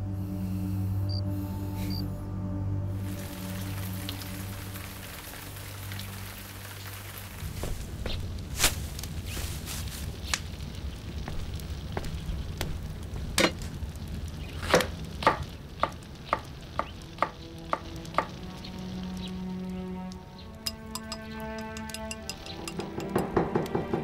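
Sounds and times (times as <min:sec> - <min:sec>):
soft background music: 0:00.0 - 0:24.0.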